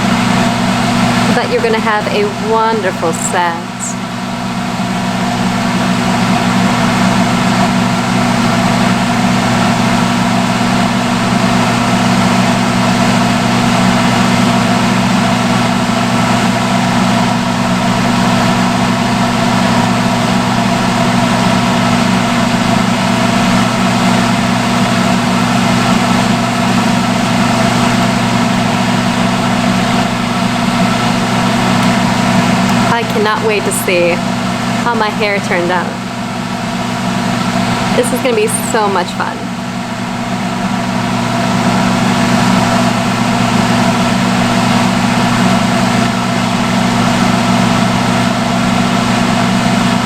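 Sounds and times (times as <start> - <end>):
hood hair dryer running: 0.0 - 50.0.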